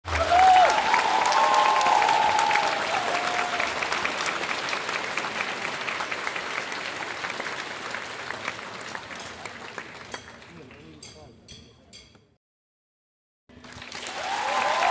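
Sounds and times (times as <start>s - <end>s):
crowd applauding and cheering: 0.0s - 10.8s, 13.5s - 14.9s.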